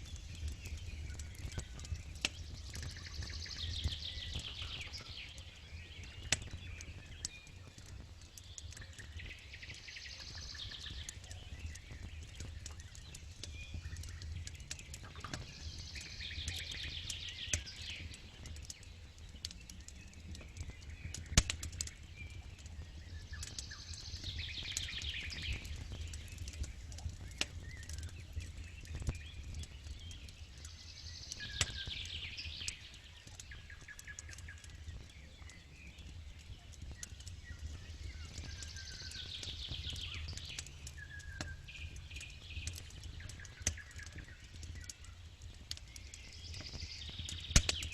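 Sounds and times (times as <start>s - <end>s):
bird song rapid falling: 0.0s - 7.6s, 8.2s - 47.9s
campfire crackling and popping: 0.0s - 47.9s.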